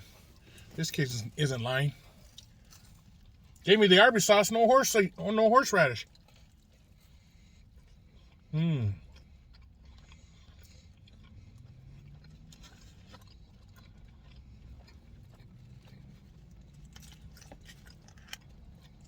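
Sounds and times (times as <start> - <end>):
person chewing: 0.0 - 3.6, 5.2 - 19.0.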